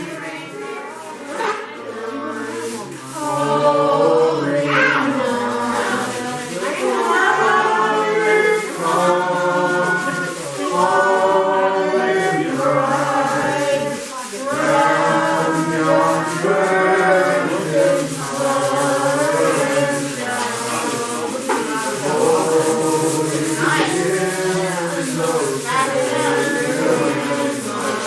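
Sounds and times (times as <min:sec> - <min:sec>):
choir singing long held notes: 0:00.0 - 0:28.0.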